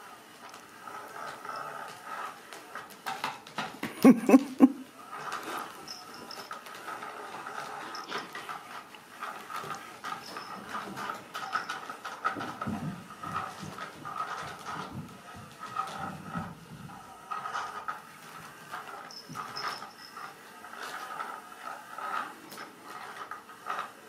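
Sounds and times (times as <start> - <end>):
small clicks and scratches: 0.0 - 3.8, 5.1 - 24.0.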